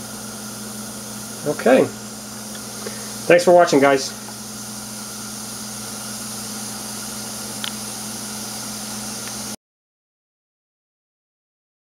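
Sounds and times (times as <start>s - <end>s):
water heating in saucepan: 0.0s - 9.6s.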